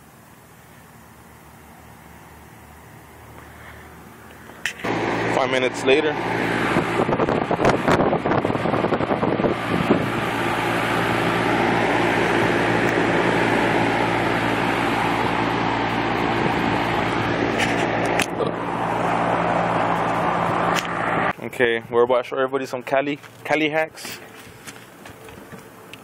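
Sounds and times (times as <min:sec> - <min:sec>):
low hum: 0:00.0 - 0:21.9
air conditioner fan rushing: 0:00.0 - 0:26.0.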